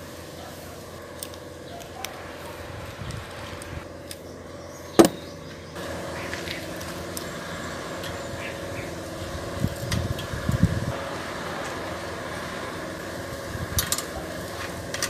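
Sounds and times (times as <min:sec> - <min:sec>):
steady motor hum: 0:00.0 - 0:15.0.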